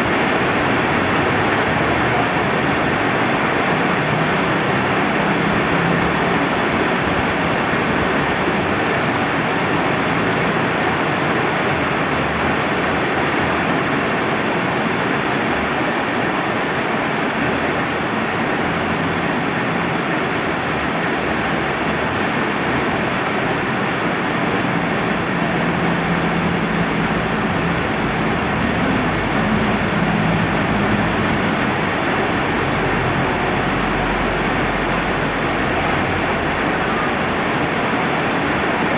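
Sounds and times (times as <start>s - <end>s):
flowing river: 0.0s - 38.9s
steady rain: 0.0s - 38.9s.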